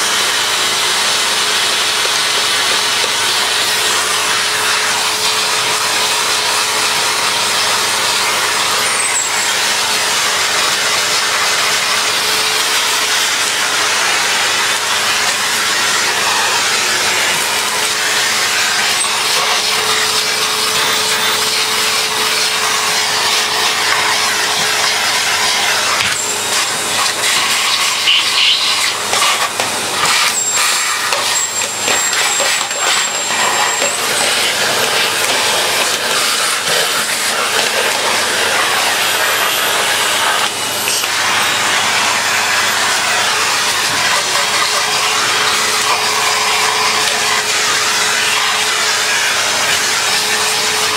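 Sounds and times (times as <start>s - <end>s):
vacuum cleaner whine: 0.0s - 50.9s.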